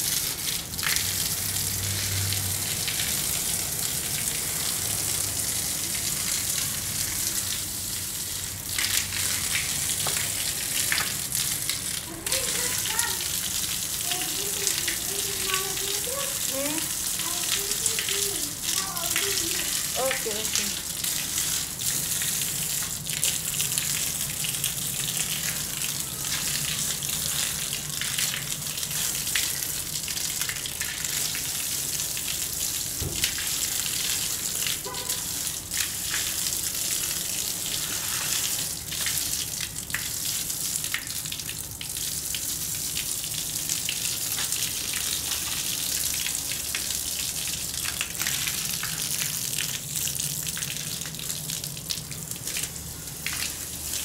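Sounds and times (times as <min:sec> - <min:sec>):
hose spraying water on wall: 0:00.0 - 0:54.0
water splashing on tiles: 0:00.0 - 0:54.0.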